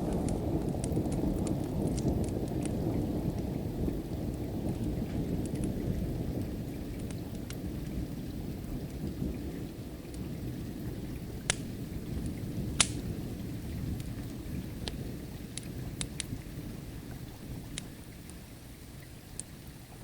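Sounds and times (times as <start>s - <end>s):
distant thunder rumble: 0.0s - 18.3s
steady rain: 0.0s - 20.0s
wood fire crackling and popping: 0.0s - 20.0s.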